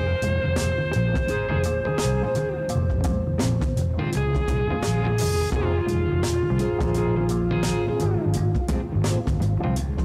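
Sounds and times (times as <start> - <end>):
guitar-led background music: 0.0 - 10.0.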